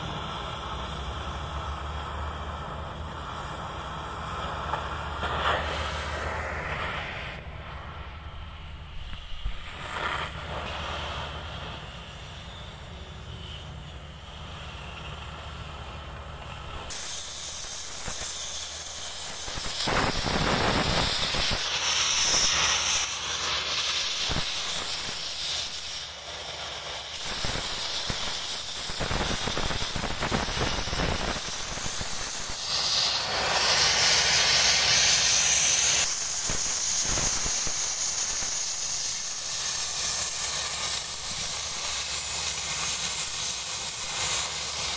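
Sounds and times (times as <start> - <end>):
cutting torch hissing: 0.0 - 44.9.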